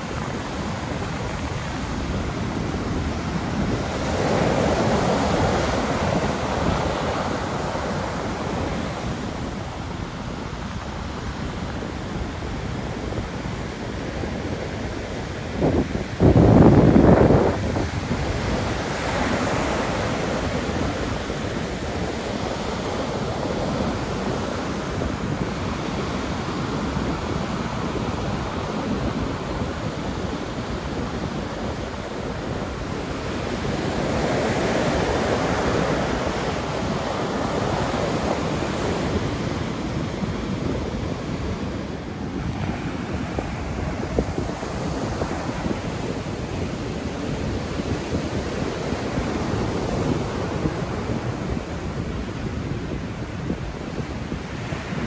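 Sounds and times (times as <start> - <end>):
surf breaking on beach: 0.0 - 55.0
wind buffeting microphone: 0.0 - 55.0.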